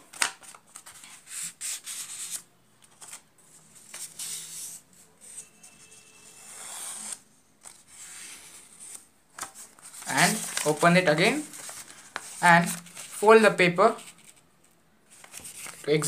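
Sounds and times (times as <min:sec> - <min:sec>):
paper rustling and scraping: 0:00.1 - 0:14.4, 0:15.1 - 0:16.0.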